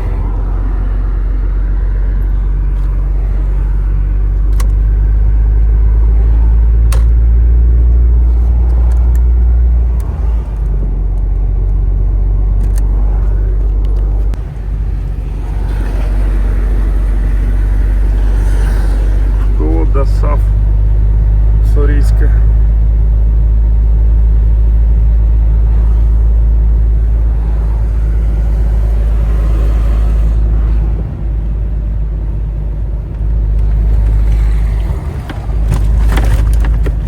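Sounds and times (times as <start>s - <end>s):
truck engine and tyres drone: 0.0s - 37.0s.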